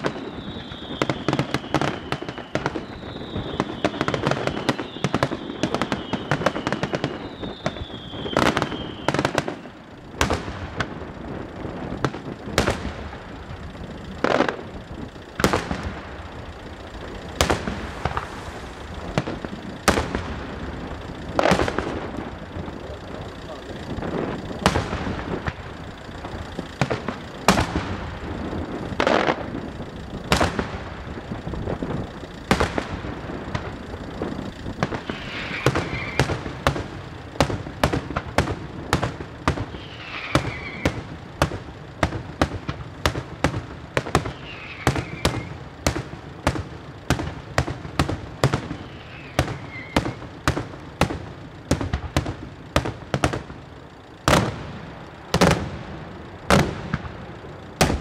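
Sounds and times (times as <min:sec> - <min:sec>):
fireworks bursting with sharp bangs: 0:00.0 - 0:13.4, 0:14.1 - 0:25.7, 0:26.8 - 0:29.6, 0:30.3 - 0:31.2, 0:32.5 - 0:33.7, 0:34.8 - 0:53.6, 0:54.2 - 0:58.0.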